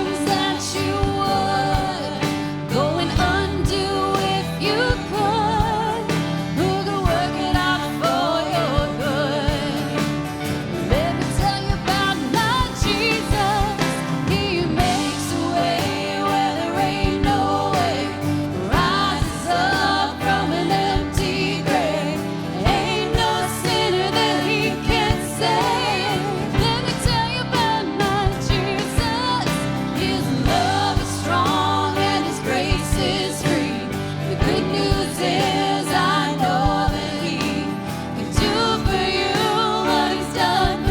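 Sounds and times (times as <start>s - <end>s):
people singing: 0.0s - 40.9s
worship band playing: 0.0s - 40.9s.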